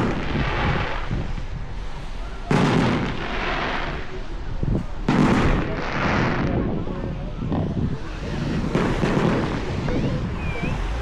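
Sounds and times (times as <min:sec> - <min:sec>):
aerial fireworks exploding: 0:00.0 - 0:11.0.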